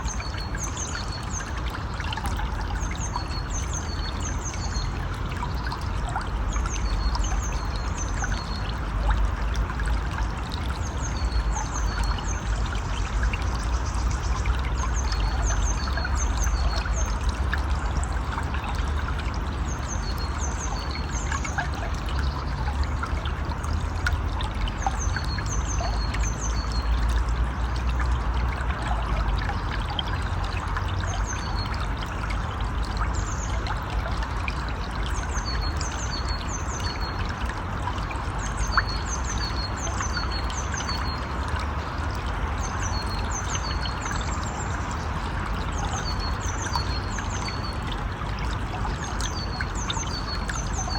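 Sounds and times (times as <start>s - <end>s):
river flowing: 0.0s - 50.9s.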